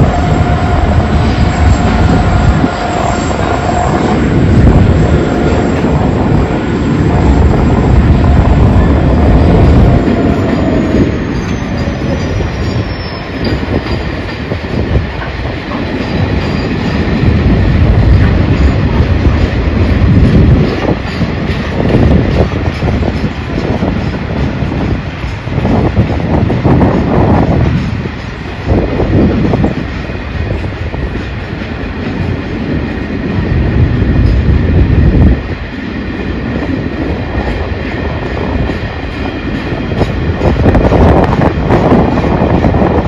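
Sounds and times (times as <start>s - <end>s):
wheels rumbling over rails: 0.0s - 43.0s.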